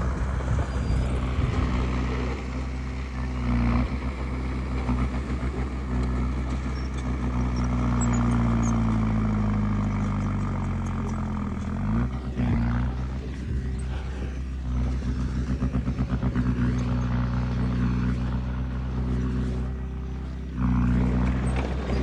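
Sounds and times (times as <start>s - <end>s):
diesel engine of heavy machinery: 0.0s - 22.0s.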